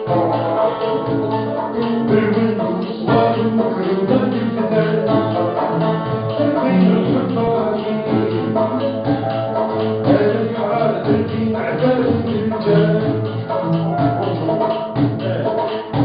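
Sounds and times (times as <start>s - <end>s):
plucked string ensemble playing: 0.0s - 16.0s.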